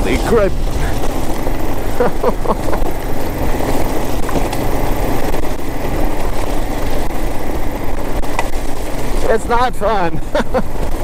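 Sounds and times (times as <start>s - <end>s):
motorcycle engine running: 0.0s - 11.0s
tyres rumbling over loose rock: 0.0s - 11.0s.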